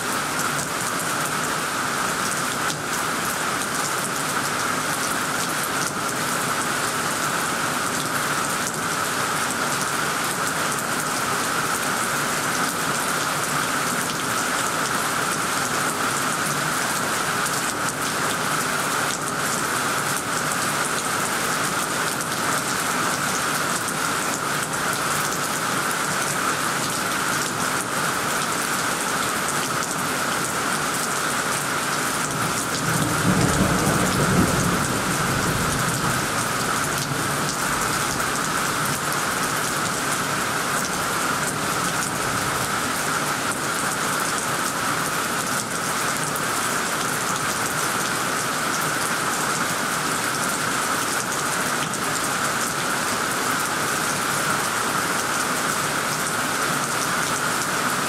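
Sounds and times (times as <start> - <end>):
heavy rain on leaves and roof: 0.0 - 58.0.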